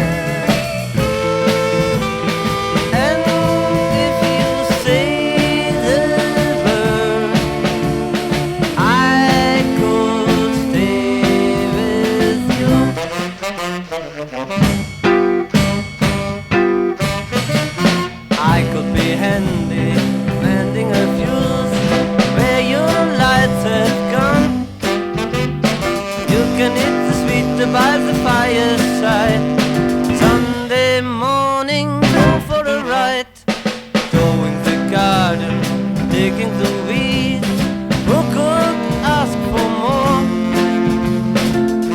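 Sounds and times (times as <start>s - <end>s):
bass guitar: 0.0s - 13.1s, 14.6s - 32.9s, 34.1s - 41.9s
saxophone melody: 0.0s - 31.1s, 31.9s - 33.2s, 34.2s - 41.9s
organ chords: 0.0s - 33.1s, 34.2s - 41.9s
beat band instrumental: 0.0s - 41.9s
drums: 0.0s - 41.9s.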